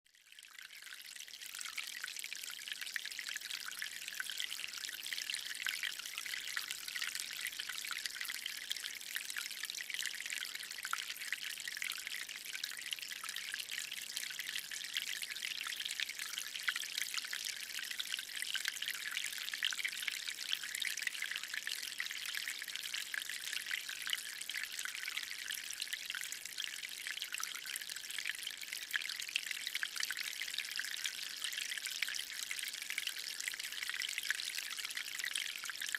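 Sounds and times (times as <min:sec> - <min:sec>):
water trickling from hose: 0:00.1 - 0:35.9.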